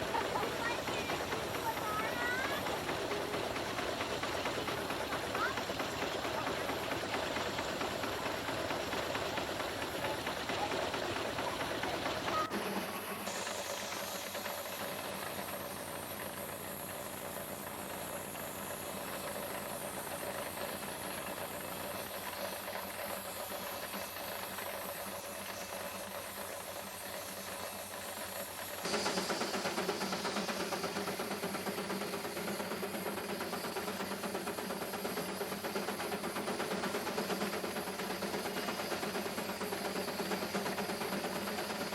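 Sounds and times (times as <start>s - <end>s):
rapid mechanical ticking: 0.0s - 41.9s
steam hissing: 0.0s - 41.9s.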